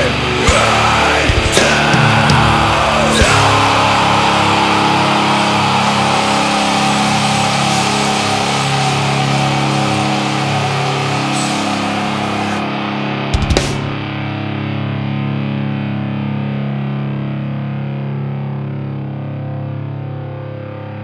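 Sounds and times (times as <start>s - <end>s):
droning metal guitar chord: 0.0s - 21.0s.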